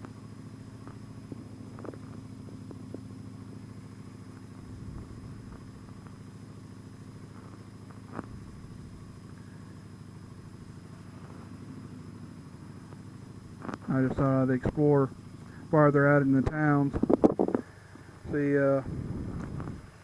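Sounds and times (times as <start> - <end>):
motorcycle engine rumbling: 0.0 - 20.0.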